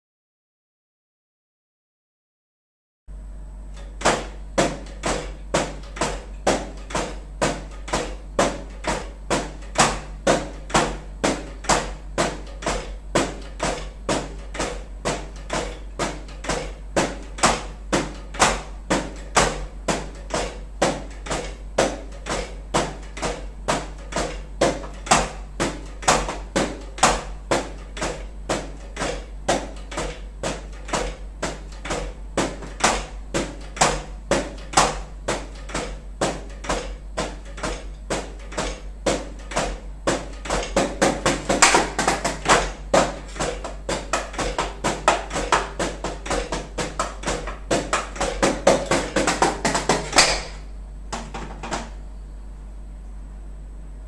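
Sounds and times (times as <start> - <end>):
drumsticks tapping drum pads: 3.7 - 52.0.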